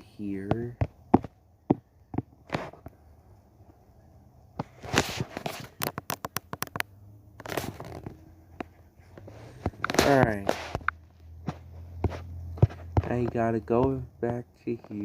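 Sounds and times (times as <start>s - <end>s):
fingers tapping a tablet: 0.4s - 3.0s, 5.4s - 15.0s.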